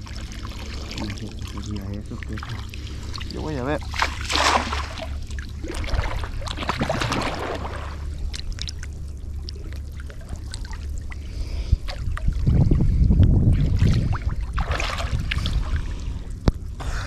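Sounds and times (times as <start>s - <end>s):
water sloshing and trickling: 0.0s - 16.8s
low rumble: 0.0s - 17.0s.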